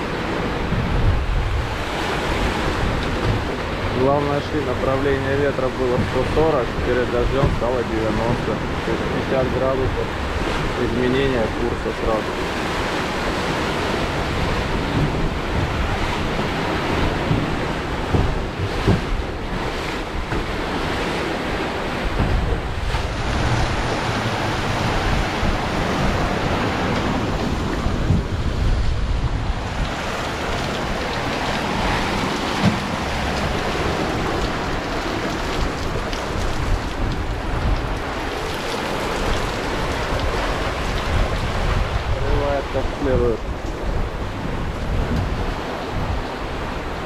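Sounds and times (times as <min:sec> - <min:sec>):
waves rushing past: 0:00.0 - 0:47.0
wind buffeting microphone: 0:00.0 - 0:47.0.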